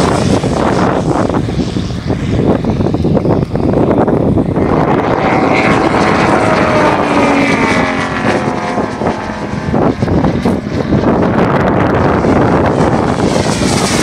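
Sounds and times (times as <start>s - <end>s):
propeller plane flying past: 0.0s - 14.0s.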